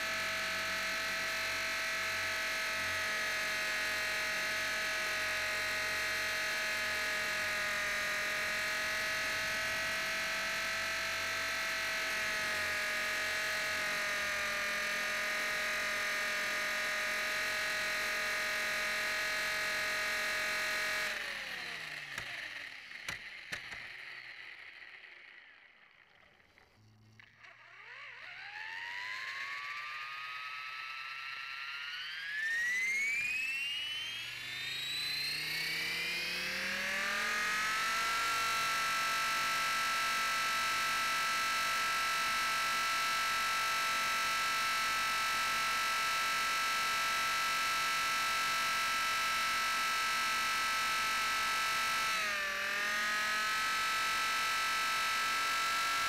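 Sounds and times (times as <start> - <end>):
rc helicopter rotor whining: 0.0 - 56.0.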